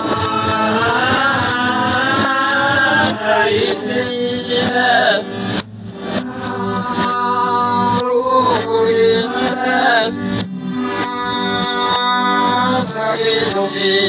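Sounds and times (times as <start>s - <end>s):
person singing: 0.0s - 5.3s, 6.1s - 14.0s
music: 0.0s - 14.0s.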